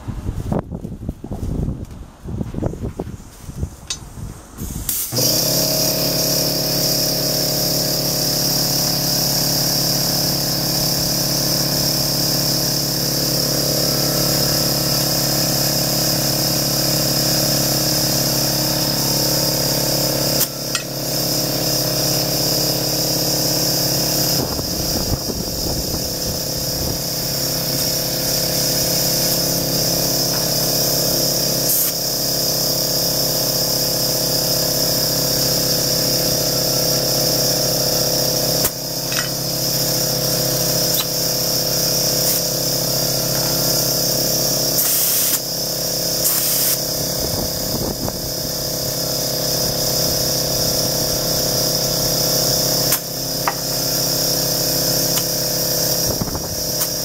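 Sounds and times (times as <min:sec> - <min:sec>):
electric air compressor running: 0:03.9 - 0:57.0.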